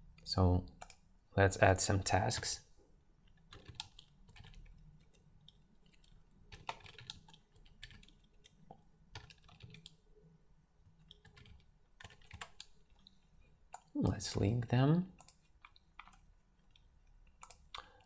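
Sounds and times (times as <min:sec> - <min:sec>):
faint keyboard typing: 0:00.1 - 0:01.0, 0:03.2 - 0:10.1, 0:10.8 - 0:18.0.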